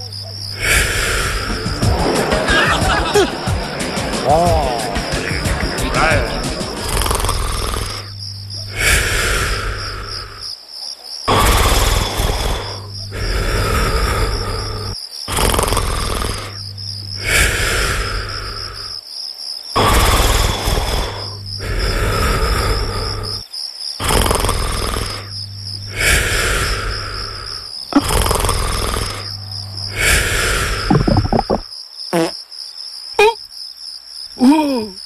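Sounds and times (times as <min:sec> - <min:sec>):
crickets chirping: 0:00.0 - 0:35.0
person snoring: 0:00.5 - 0:03.4, 0:04.3 - 0:10.5, 0:11.3 - 0:19.0, 0:19.8 - 0:23.4, 0:24.0 - 0:31.6.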